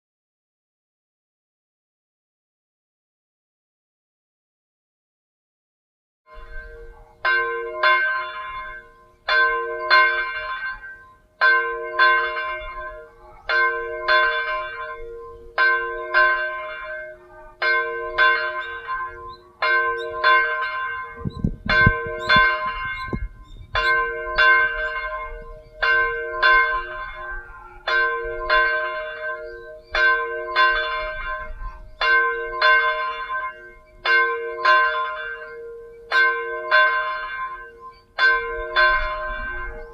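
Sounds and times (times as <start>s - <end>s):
church bell ringing: 6.3s - 39.9s.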